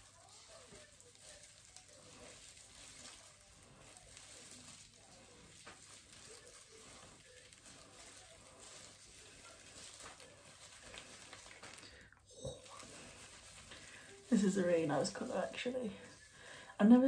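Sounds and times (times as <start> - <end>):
gloved hands rubbing wet hair: 0.0 - 17.0.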